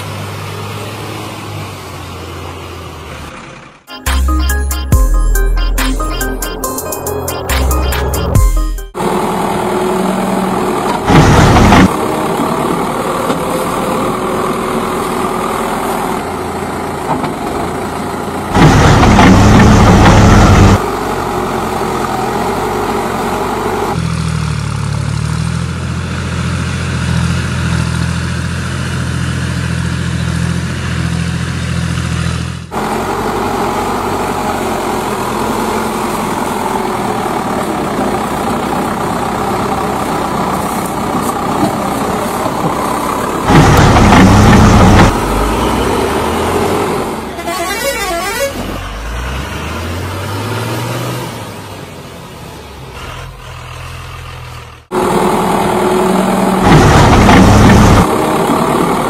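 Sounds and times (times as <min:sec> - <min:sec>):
heavy vehicle engine running: 0:00.0 - 0:59.0.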